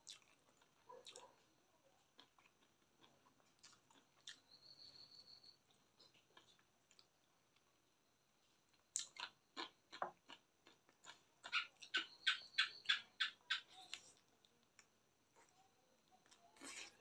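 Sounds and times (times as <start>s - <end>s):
chewing and lip-smacking: 0.0s - 4.6s, 5.6s - 7.7s, 8.7s - 15.5s, 16.1s - 17.0s.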